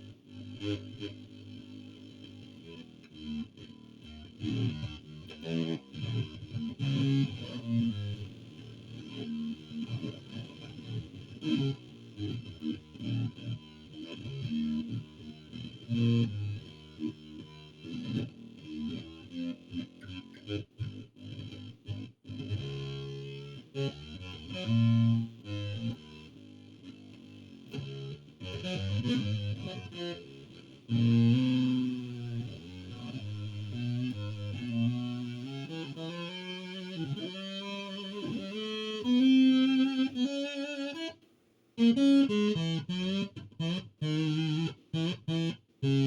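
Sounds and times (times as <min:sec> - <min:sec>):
instrumental music: 0:00.0 - 0:46.0.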